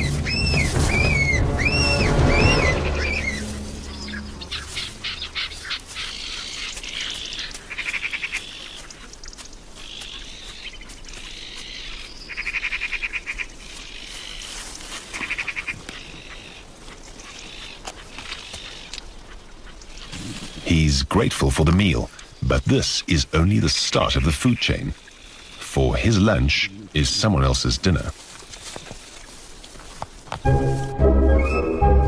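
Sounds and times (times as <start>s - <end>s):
soft bird calls: 0.0s - 20.9s, 21.6s - 30.5s
birds chattering: 0.0s - 30.5s.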